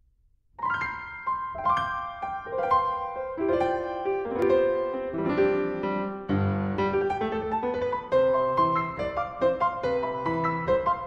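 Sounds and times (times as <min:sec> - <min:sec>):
piano music: 0:00.6 - 0:11.0.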